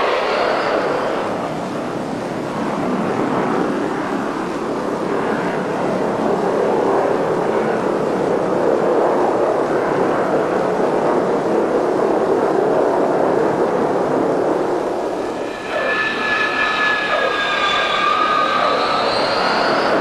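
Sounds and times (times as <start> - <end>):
jet engines in flight: 0.0 - 20.0.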